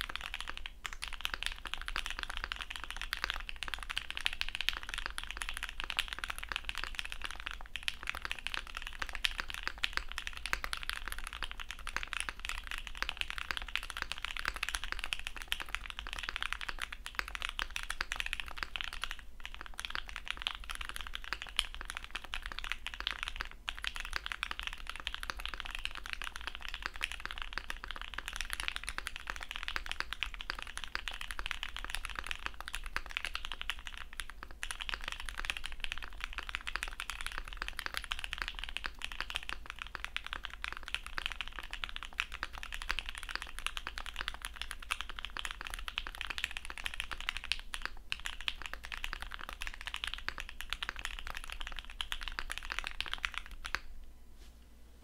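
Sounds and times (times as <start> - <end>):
mechanical keyboard typing: 0.0 - 53.8.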